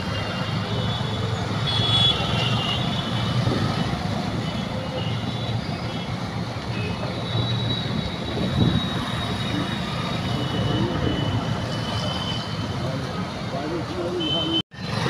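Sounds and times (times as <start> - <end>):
vehicle engines on wet road: 2.3 - 15.0.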